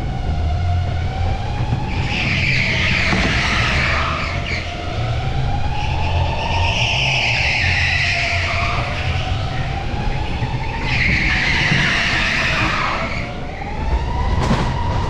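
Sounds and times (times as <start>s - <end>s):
tyres squealing: 1.7s - 13.8s.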